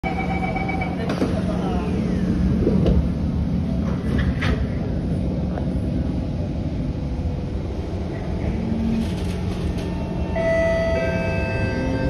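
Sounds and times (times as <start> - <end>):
metro train rumbling on track: 0.0 - 12.0.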